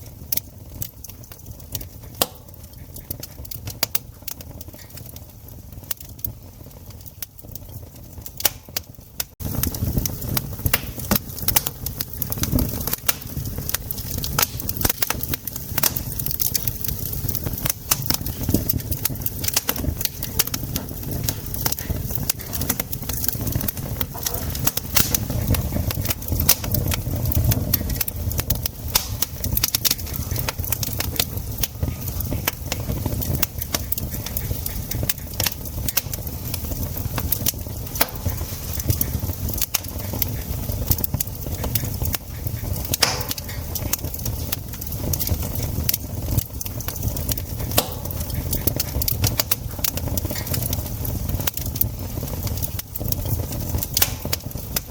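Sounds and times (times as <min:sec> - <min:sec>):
campfire crackling: 0:00.0 - 0:54.9
wood popping and snapping: 0:00.3 - 0:05.2, 0:05.8 - 0:54.9.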